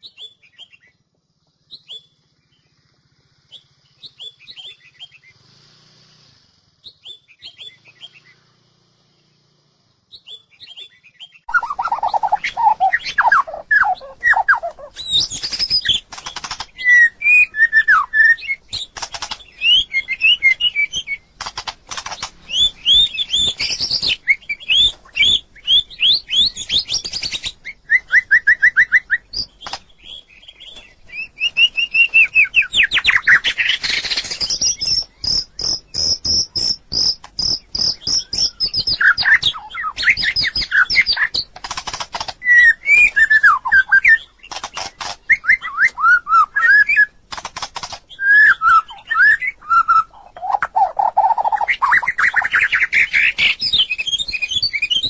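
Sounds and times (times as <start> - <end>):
bird singing whistled phrases: 0.0 - 0.9, 1.7 - 2.2, 3.5 - 5.3, 6.8 - 8.4, 10.1 - 21.3, 22.5 - 41.5, 42.4 - 47.2, 48.1 - 55.0.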